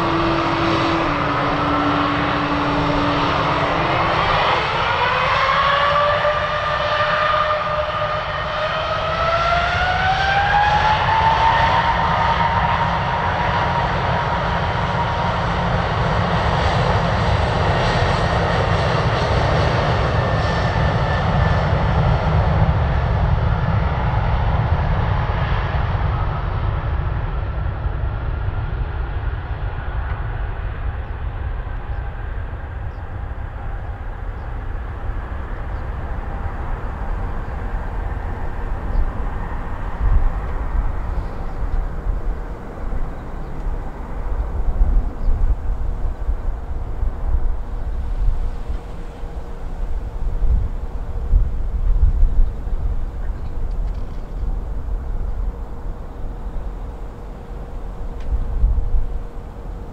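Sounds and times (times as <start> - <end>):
jet engines spooling up whine: 0.0 - 59.9
low jet engine noise: 0.0 - 59.9.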